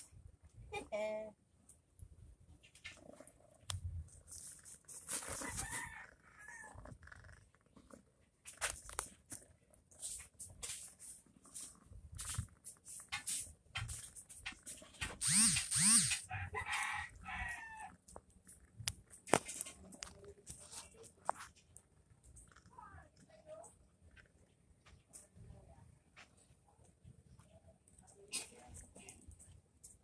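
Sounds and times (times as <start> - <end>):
light scratches and taps: 1.7 - 6.0, 6.8 - 16.0, 16.6 - 30.0.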